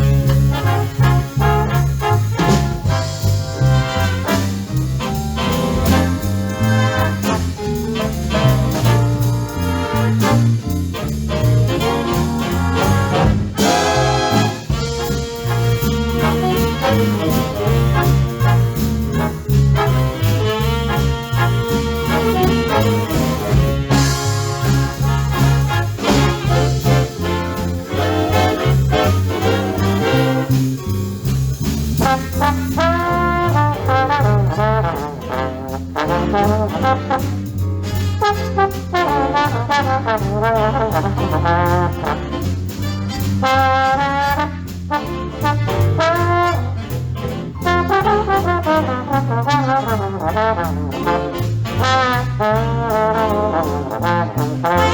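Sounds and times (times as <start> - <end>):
big band playing swing: 0.0 - 54.9.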